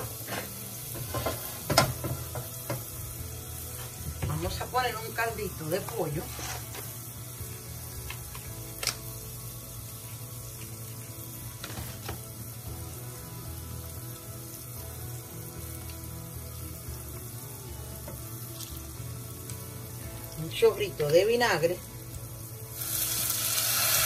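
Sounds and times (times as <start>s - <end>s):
garlic sizzling in oil: 0.0s - 24.0s.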